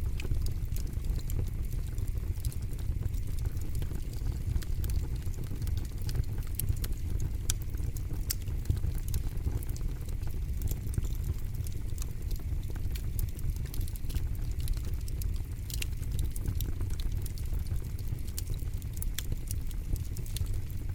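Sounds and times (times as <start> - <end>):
campfire crackling: 0.0 - 20.9.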